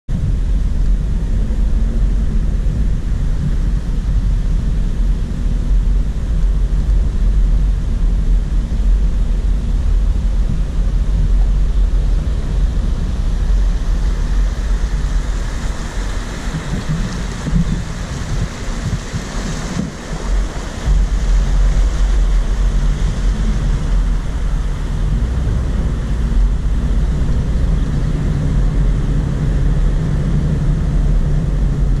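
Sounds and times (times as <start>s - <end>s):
vehicle engine and tyres rumbling: 0.0s - 32.0s
water splashing and rushing: 0.1s - 32.0s.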